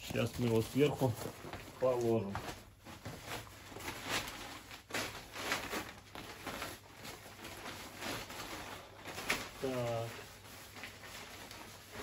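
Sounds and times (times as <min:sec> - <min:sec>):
stiff fabric rustling and crinkling: 0:00.0 - 0:12.0.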